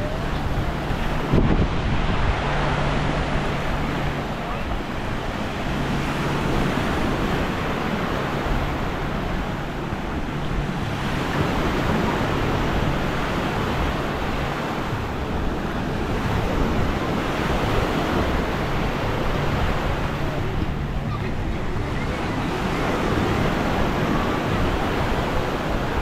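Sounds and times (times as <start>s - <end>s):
surf washing onto beach: 0.0s - 26.0s
wind on microphone: 0.0s - 26.0s.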